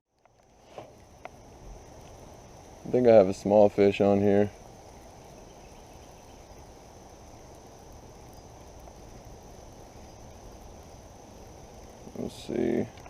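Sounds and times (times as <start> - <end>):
crickets buzzing: 0.1 - 13.0.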